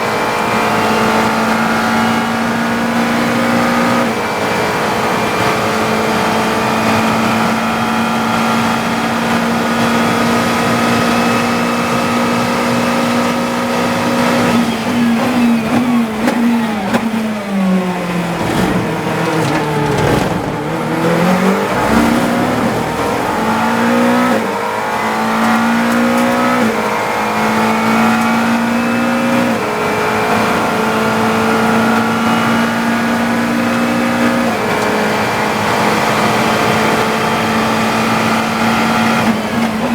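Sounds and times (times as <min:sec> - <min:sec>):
race car engine revving and shifting: 0:00.0 - 0:39.9.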